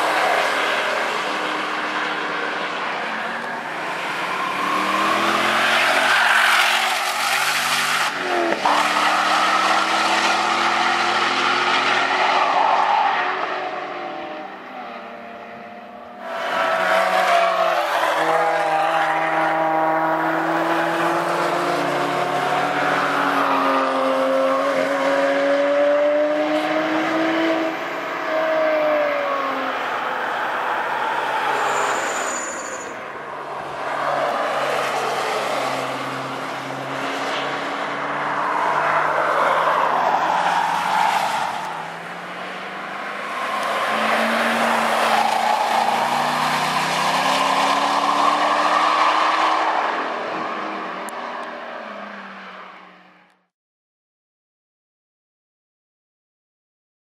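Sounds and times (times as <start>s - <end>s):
race car engines accelerating: 0.0s - 53.1s.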